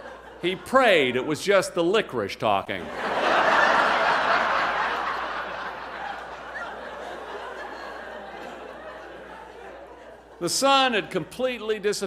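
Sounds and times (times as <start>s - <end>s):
audience laughing: 0.0s - 1.6s, 2.8s - 11.2s.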